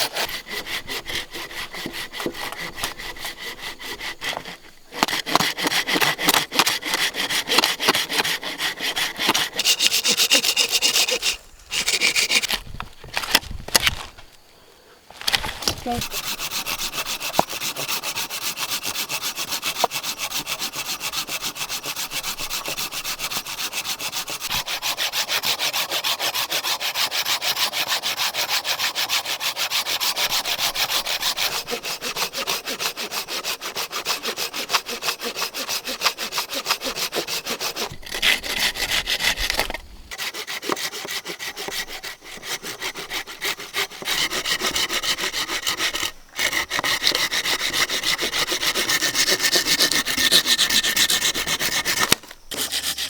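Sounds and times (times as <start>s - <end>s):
rubbing on a hard surface: 0.0s - 12.6s, 15.6s - 28.0s, 28.6s - 53.0s.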